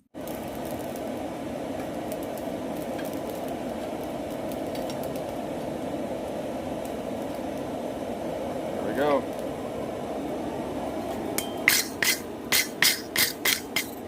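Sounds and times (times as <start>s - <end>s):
charcoal crackling: 0.0s - 14.0s
forge air blower rushing: 0.0s - 14.0s.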